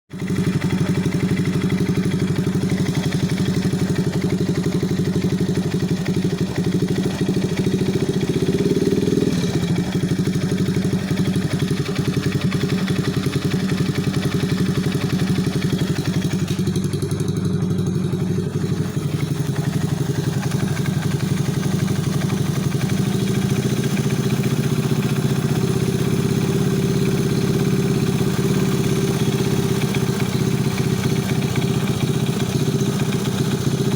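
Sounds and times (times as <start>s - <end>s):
moped engine knocking: 0.2s - 33.9s.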